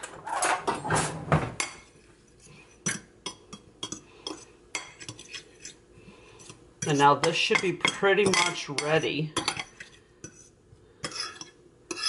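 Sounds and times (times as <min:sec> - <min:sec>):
spoon scraping a ceramic dish: 0:01.6 - 0:05.8, 0:06.4 - 0:12.0.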